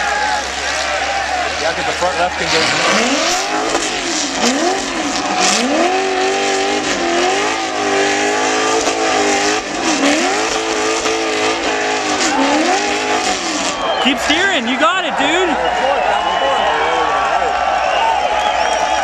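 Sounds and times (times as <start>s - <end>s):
buggy engine revving: 0.0s - 19.0s.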